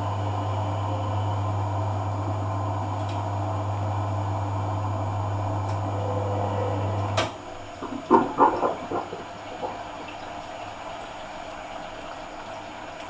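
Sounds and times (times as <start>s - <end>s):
washing machine pump hum: 0.0s - 13.0s.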